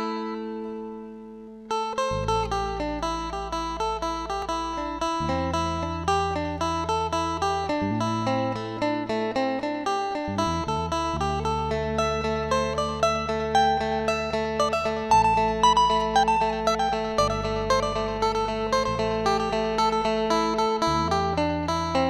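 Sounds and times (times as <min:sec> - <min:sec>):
plucked string instrument: 0:00.0 - 0:22.0
held low bass notes: 0:02.1 - 0:09.3, 0:10.3 - 0:22.0.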